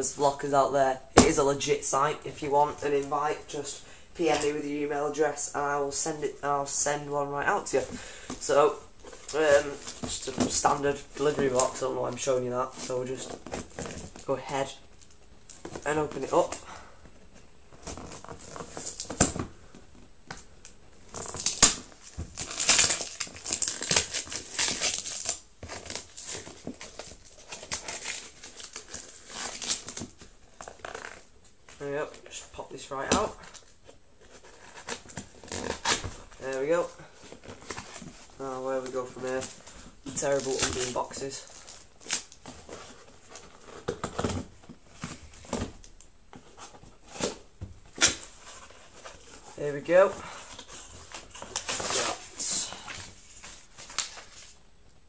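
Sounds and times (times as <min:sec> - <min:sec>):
cardboard and tape rustling: 0:00.1 - 0:54.6.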